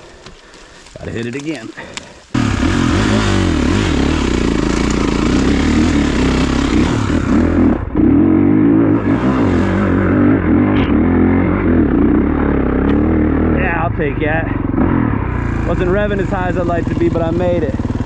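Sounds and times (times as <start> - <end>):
dirt bike engine revving: 1.8 - 18.0.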